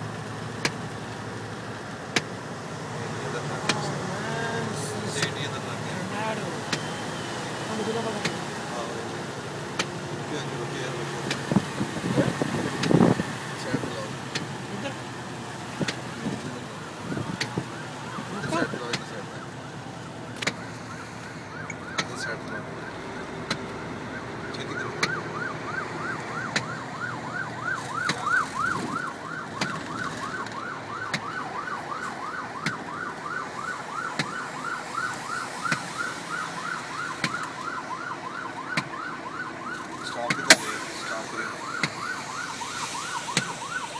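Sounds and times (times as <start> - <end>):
road noise: 0.0 - 43.9
siren yelping: 3.2 - 43.9.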